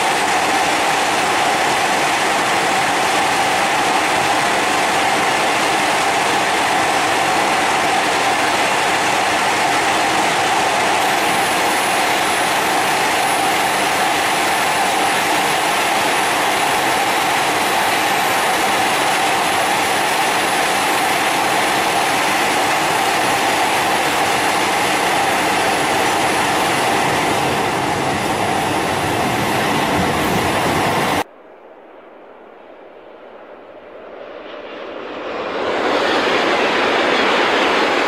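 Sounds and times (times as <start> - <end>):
electric train rushing past: 0.0 - 31.3, 33.1 - 38.0.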